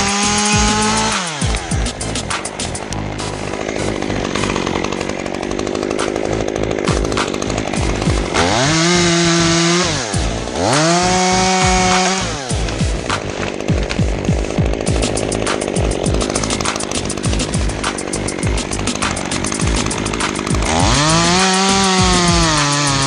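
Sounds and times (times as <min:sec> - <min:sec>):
chainsaw cutting wood: 0:00.0 - 0:23.0
chainsaw revving: 0:00.0 - 0:23.0.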